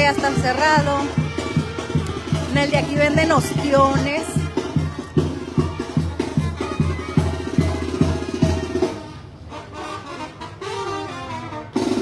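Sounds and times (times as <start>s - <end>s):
banda music with bass and percussion: 0.0s - 12.0s.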